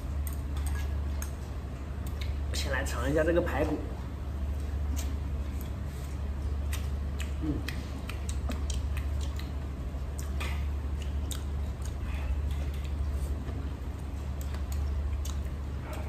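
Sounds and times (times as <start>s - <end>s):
man chewing ribs: 0.0s - 2.5s, 4.0s - 16.0s
steady low hum: 0.0s - 16.0s.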